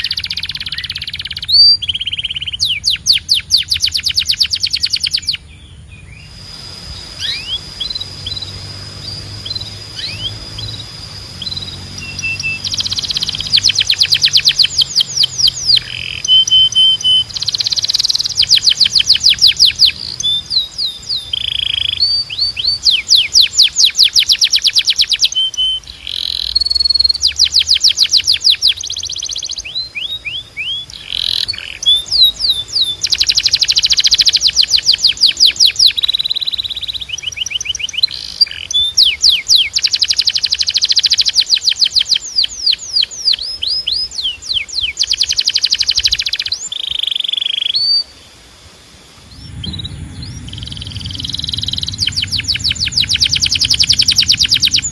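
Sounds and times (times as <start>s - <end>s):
canary singing trills: 0.0s - 48.2s, 49.2s - 54.9s.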